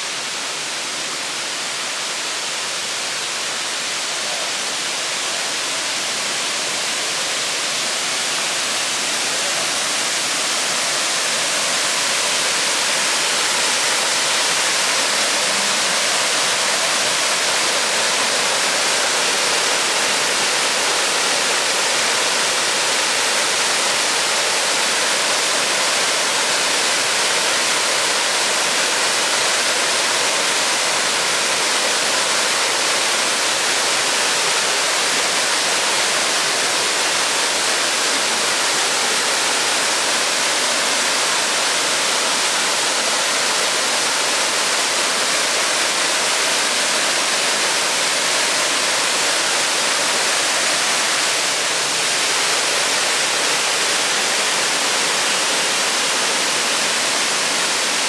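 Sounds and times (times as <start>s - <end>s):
waterfall rushing and splashing: 0.0s - 58.0s.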